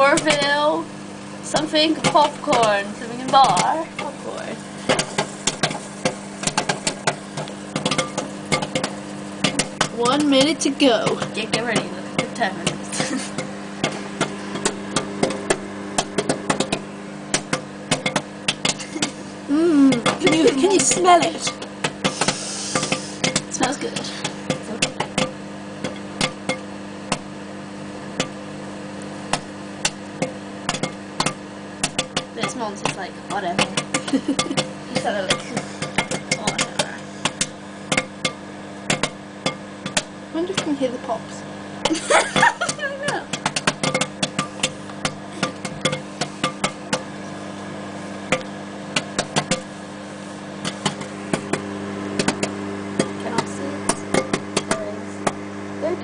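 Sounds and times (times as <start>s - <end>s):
microwave oven humming: 0.0s - 56.0s
popcorn popping: 0.0s - 56.0s.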